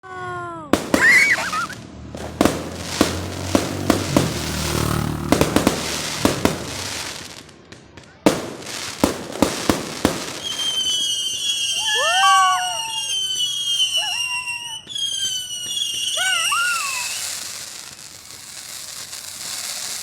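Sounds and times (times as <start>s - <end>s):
fireworks bangs and crackles: 0.1s - 20.0s
firework whistle: 0.8s - 7.2s, 10.2s - 20.0s.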